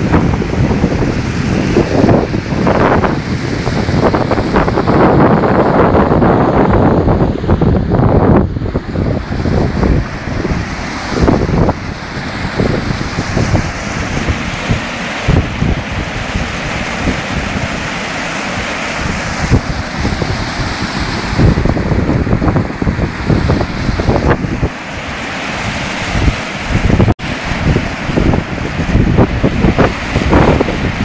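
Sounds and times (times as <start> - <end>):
floodwater rushing and churning: 0.0 - 31.0
wind buffeting microphone: 0.0 - 31.0.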